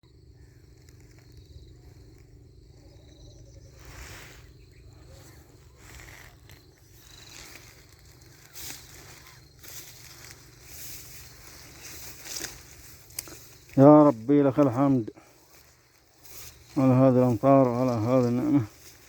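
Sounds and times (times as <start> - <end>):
rustling: 0.5 - 19.0.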